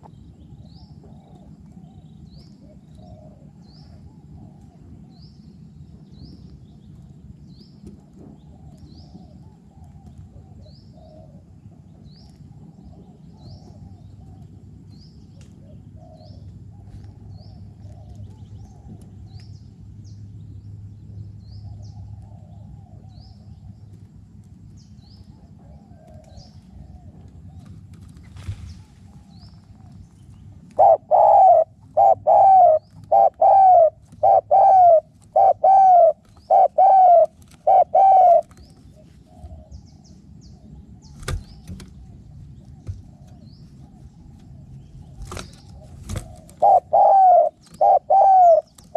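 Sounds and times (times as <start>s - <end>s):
doves cooing: 0.0s - 5.2s, 6.8s - 19.5s, 21.6s - 48.9s.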